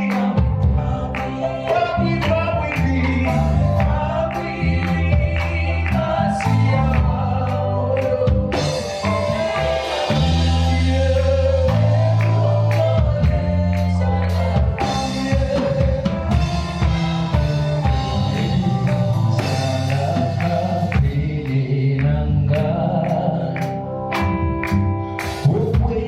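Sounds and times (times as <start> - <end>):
bass guitar: 0.0 - 26.0
drum kit: 0.0 - 26.0
sung vocals: 0.0 - 26.0.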